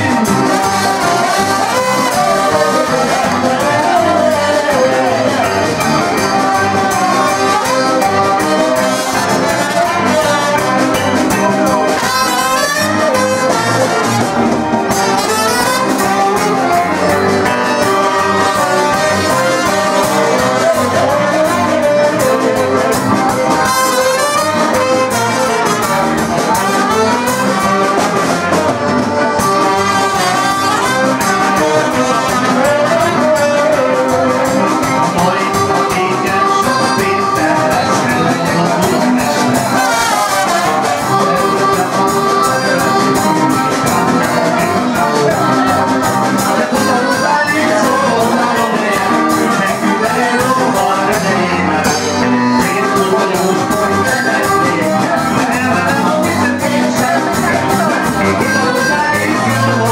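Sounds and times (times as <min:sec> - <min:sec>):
drums with steady beat: 0:00.0 - 0:59.9
guitar: 0:00.0 - 0:59.9
saxophone melody: 0:00.0 - 0:59.9.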